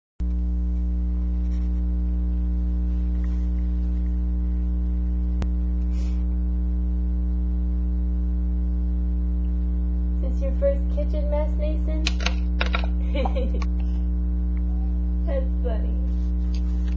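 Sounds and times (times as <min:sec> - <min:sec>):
electrical mains hum: 0:00.2 - 0:16.9.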